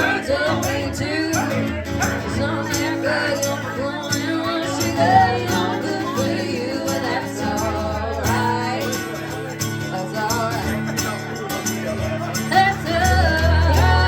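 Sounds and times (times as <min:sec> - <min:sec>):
person singing: 0:00.0 - 0:10.8, 0:12.1 - 0:14.0.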